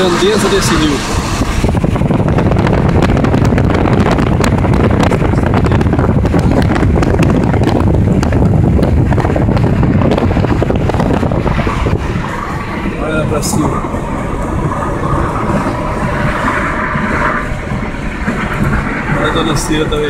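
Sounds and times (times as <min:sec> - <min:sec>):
car rumbling on road: 0:00.0 - 0:20.0
wind buffeting microphone: 0:00.0 - 0:20.0.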